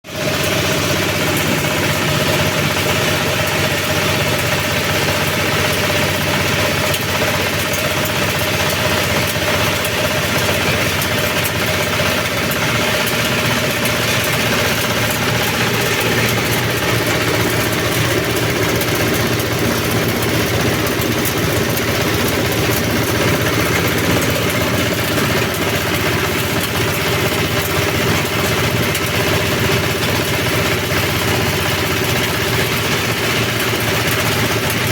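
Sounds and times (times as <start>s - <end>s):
chopper machine droning: 0.1s - 34.9s.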